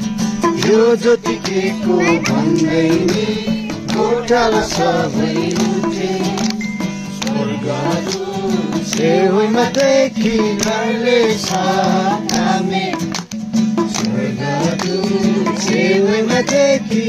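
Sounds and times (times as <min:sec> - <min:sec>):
instrumental accompaniment: 0:00.0 - 0:17.0
sharp percussive strokes: 0:00.0 - 0:17.0
voices singing a carol: 0:00.4 - 0:13.1, 0:13.9 - 0:17.0.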